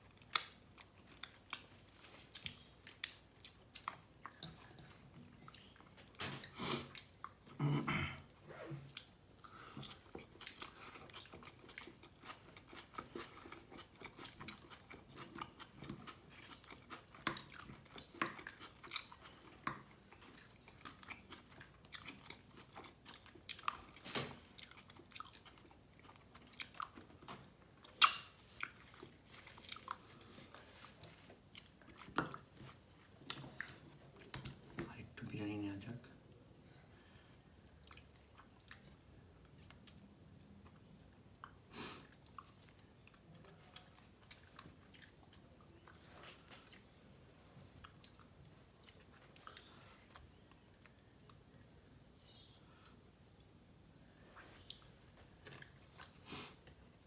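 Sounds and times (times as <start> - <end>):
wet chewing and mouth smacks: 0.0 - 7.6, 8.9 - 34.6, 37.7 - 47.0, 47.7 - 51.8, 52.4 - 57.0.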